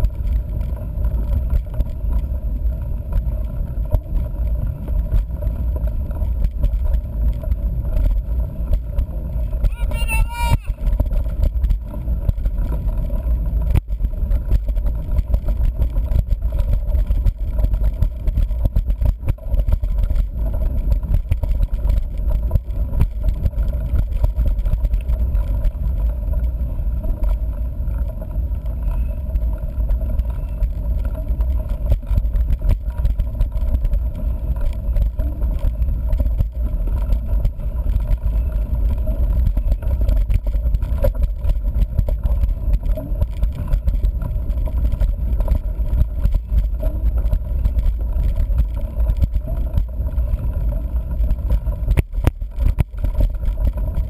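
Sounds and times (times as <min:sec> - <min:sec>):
bike knocks and rattles: 0:00.0 - 0:09.8, 0:10.7 - 0:54.0
knobby tyres on dirt: 0:00.0 - 0:54.0
wind on microphone: 0:00.0 - 0:54.0.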